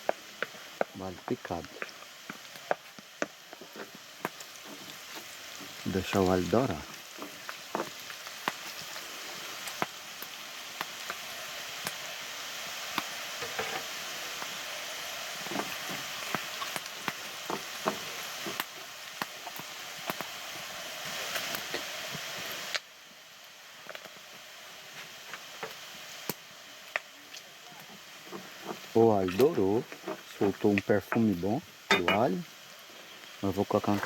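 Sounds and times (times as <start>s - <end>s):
garlic sizzling in a frying pan: 0.0s - 34.0s.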